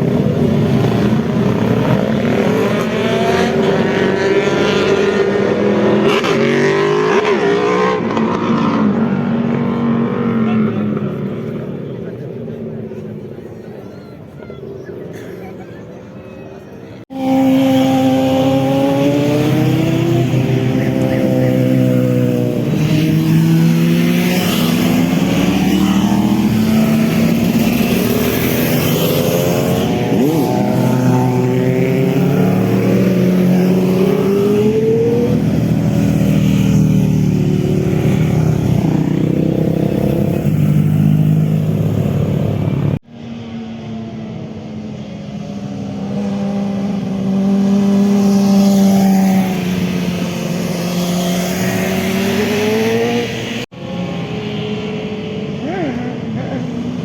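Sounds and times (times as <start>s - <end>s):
motorcycle engine revving: 0.0s - 12.2s, 17.1s - 43.0s, 44.5s - 57.0s.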